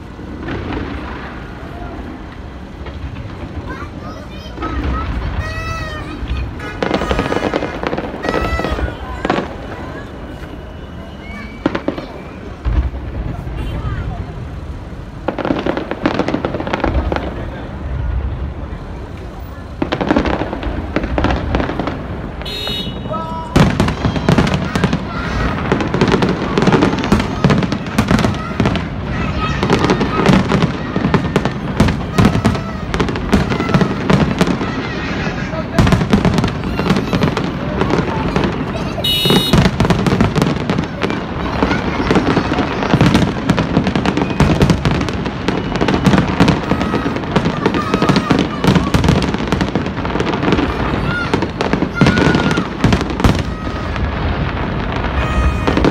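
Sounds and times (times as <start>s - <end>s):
loud firework bang: 0.0s - 10.7s, 11.3s - 55.9s
fireworks popping and crackling: 0.0s - 55.9s.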